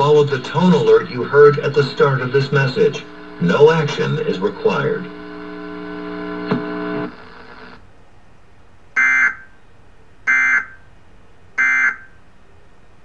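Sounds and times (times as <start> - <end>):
steady buzzing hum: 0.0 - 12.5.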